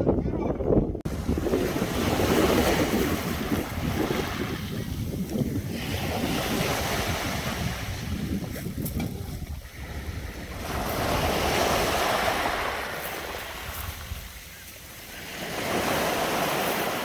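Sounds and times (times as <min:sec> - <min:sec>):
wind buffeting microphone: 0:00.0 - 0:17.0
sea surf: 0:01.1 - 0:08.3, 0:09.2 - 0:17.0.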